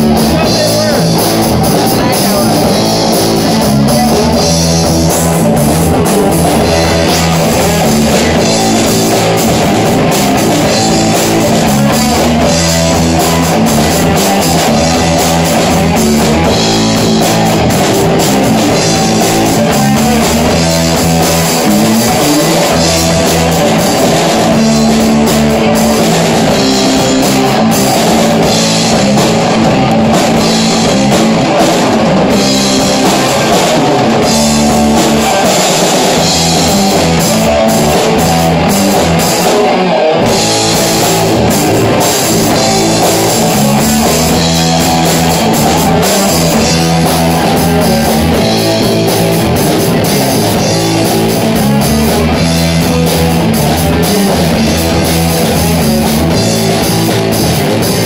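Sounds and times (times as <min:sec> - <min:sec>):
rock band playing loudly: 0:00.0 - 0:58.0.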